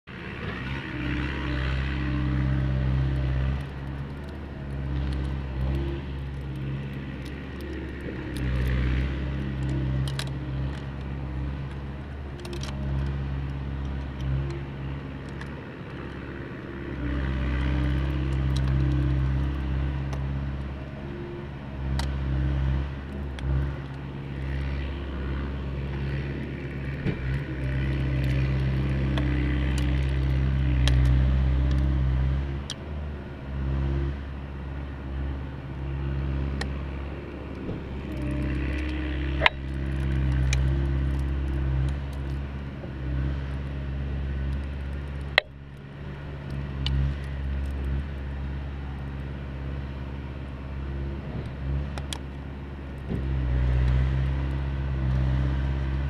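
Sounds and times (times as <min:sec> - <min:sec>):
motor droning hum: 0:00.1 - 0:56.0.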